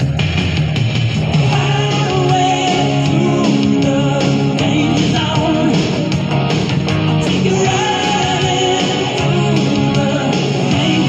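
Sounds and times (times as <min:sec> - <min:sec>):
rock music with guitar and singing: 0:00.0 - 0:11.0.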